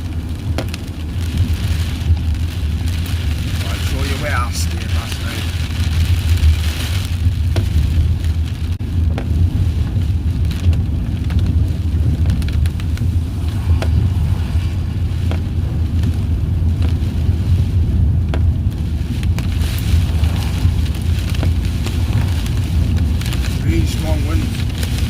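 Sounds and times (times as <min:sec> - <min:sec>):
car road and engine rumble: 0:00.0 - 0:25.0
rain ticking on car: 0:00.0 - 0:25.0.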